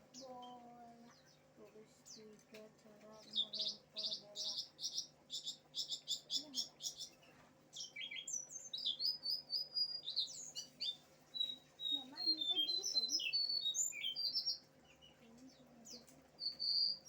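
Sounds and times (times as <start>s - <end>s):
bird singing: 0.0s - 17.0s.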